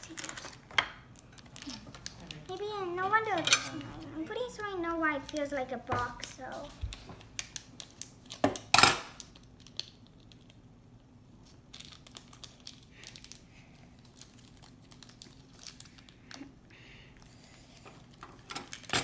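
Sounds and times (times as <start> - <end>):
toy packaging crinkling: 0.0 - 10.6, 11.5 - 16.5.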